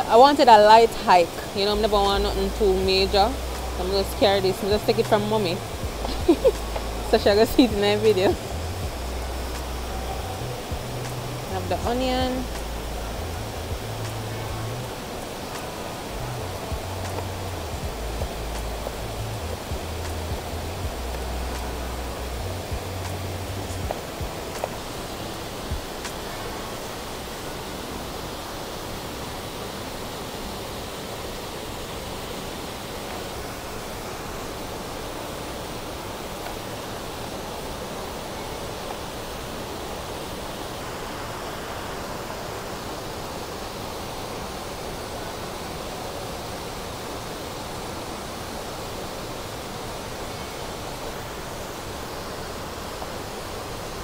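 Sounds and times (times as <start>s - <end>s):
water rushing over stones: 0.0s - 54.0s.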